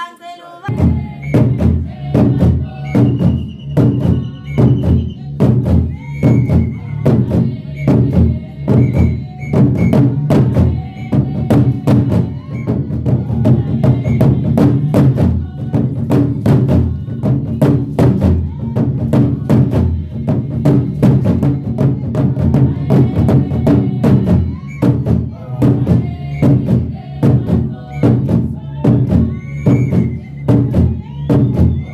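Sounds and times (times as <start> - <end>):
voices singing: 0.0 - 31.9
quick steady drumming: 0.7 - 31.9.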